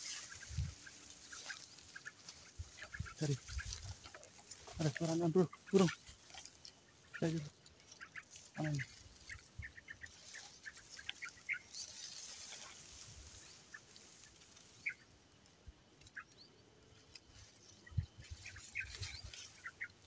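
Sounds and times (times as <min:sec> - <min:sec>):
grass rustling: 0:00.0 - 0:20.0
small bird chirping: 0:00.0 - 0:20.0.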